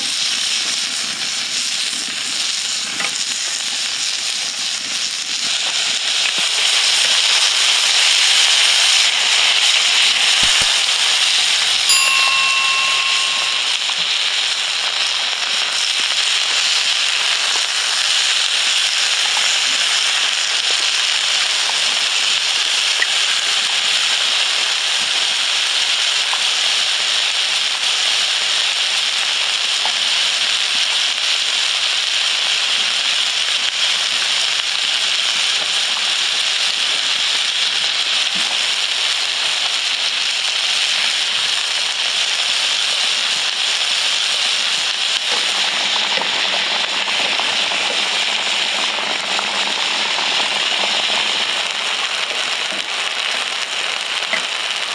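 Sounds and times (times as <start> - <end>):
chicken sizzling in a grill pan: 0.0 - 54.9
potatoes frying in hot oil: 0.0 - 54.9.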